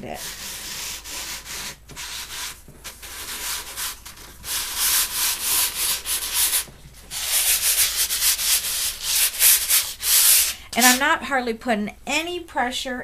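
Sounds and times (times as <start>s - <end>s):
sanding pad scratching canvas: 0.0s - 11.0s.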